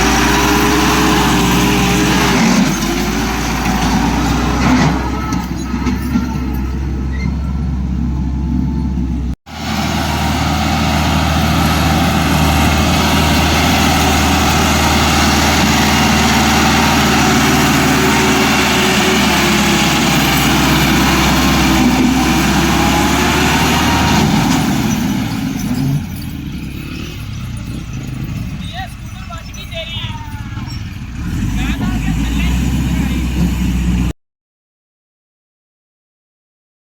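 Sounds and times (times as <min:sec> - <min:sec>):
tractor diesel engine running: 0:00.0 - 0:34.1.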